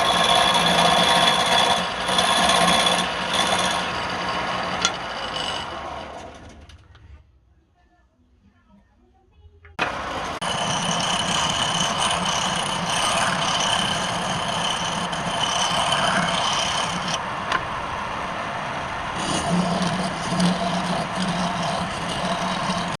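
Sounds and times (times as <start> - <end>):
wood lathe running: 0.0 - 6.4, 9.8 - 17.7, 18.3 - 23.0.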